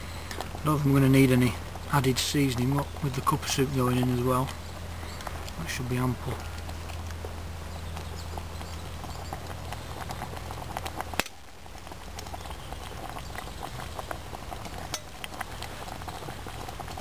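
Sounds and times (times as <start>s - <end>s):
soup bubbling and popping: 0.0s - 17.0s.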